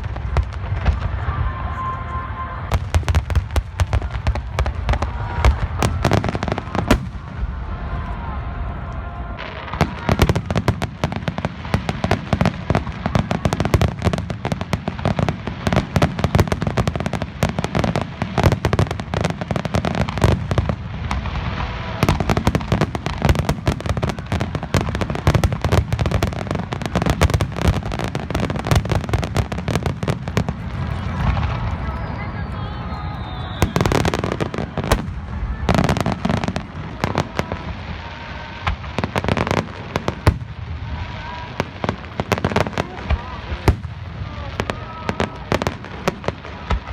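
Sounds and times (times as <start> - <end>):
fireworks crackling and popping: 0.0 - 46.9
low rumble of fireworks bursts: 0.0 - 46.9.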